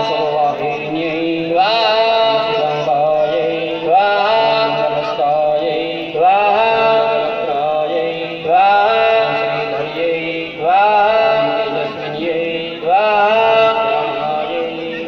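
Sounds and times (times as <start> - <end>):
person chanting: 0.0 - 15.0
steady drone: 0.0 - 15.0.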